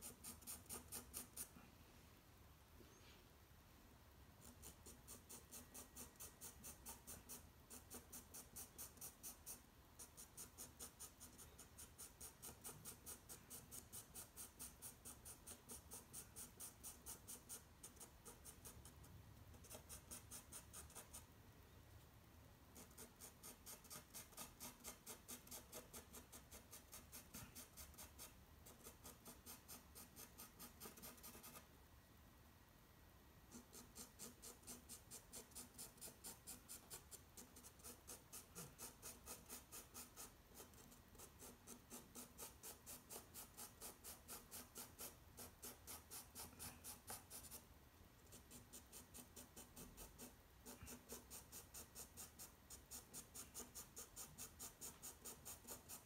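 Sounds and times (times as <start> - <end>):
pencil shading strokes on paper: 0.0 - 1.7, 4.4 - 21.3, 22.7 - 31.7, 33.5 - 56.0.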